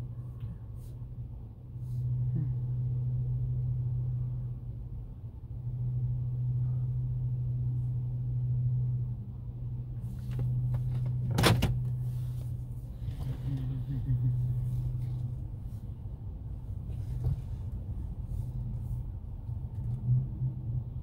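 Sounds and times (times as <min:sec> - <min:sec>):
engine and road hum: 0:00.0 - 0:21.0.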